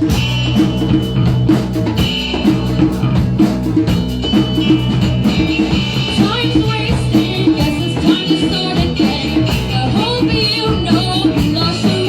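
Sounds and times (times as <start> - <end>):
drum kit beat: 0.0 - 12.0
rock band playing live: 0.0 - 12.0.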